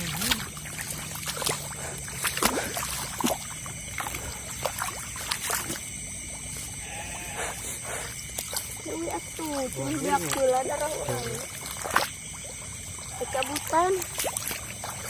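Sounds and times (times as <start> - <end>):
night insects chorus: 0.0 - 15.0
shallow water splashing: 0.0 - 15.0.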